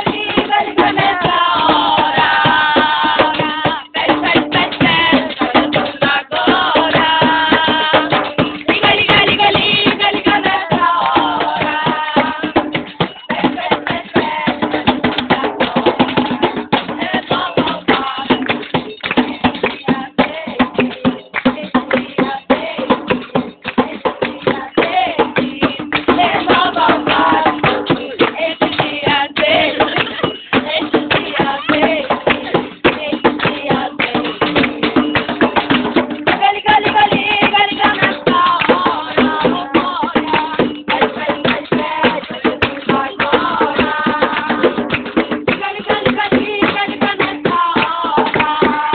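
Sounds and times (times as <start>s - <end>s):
drums and percussion: 0.0s - 48.9s.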